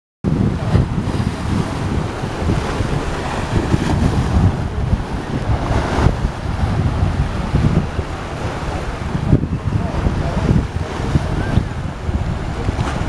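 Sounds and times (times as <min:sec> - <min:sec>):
wind buffeting microphone: 0:00.2 - 0:13.0
waves splashing against seawall: 0:00.3 - 0:13.0.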